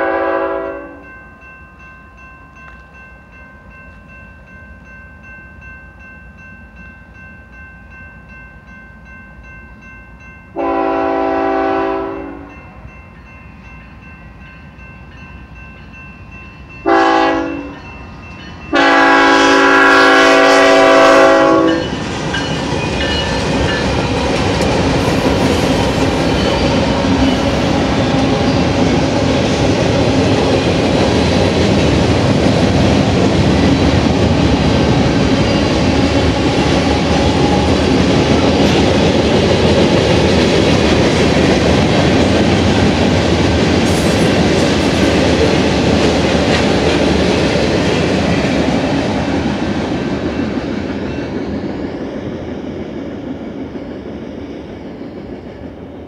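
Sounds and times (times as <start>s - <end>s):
diesel locomotive engine hum: 10.5s - 56.0s.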